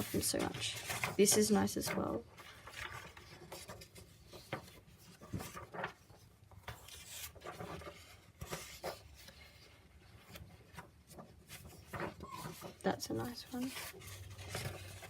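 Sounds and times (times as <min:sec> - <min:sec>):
paper sheets rustling: 0:00.0 - 0:15.0.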